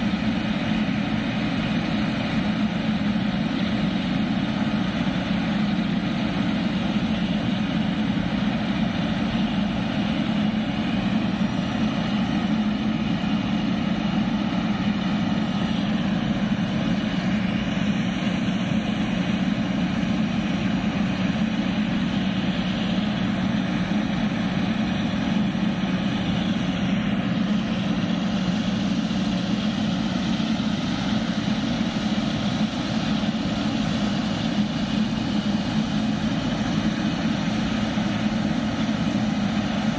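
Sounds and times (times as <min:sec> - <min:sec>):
jet engines running at low power: 0:00.0 - 0:39.9.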